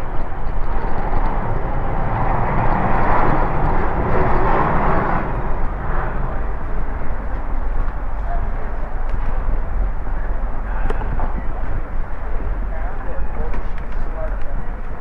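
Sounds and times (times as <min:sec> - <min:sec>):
constant low rumble: 0:00.0 - 0:15.0
rushing air noise: 0:00.0 - 0:15.0
street ambience: 0:00.0 - 0:15.0.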